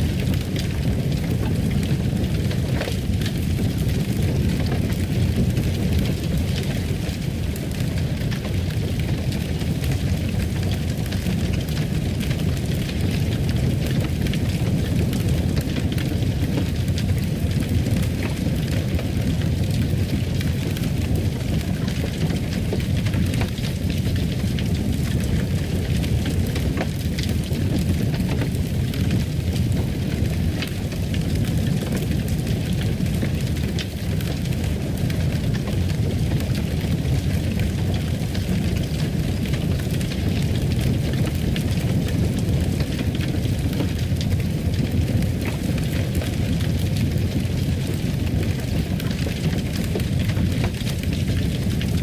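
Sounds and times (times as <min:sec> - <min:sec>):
fire flames rumbling: 0:00.0 - 0:52.0
wood crackling and popping: 0:00.0 - 0:52.0.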